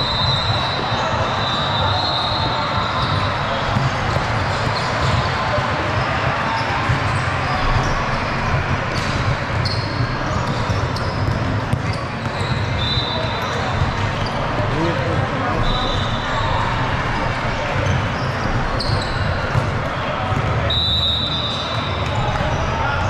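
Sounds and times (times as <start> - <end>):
crowd noise: 0.0 - 23.0
sneaker squeaks: 0.0 - 23.0
basketball bouncing on court: 0.1 - 16.2, 17.6 - 22.7.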